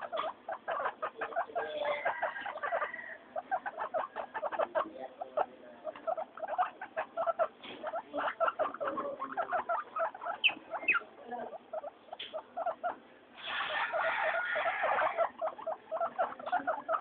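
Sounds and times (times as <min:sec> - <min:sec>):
guinea pigs squeaking: 0:00.0 - 0:17.0.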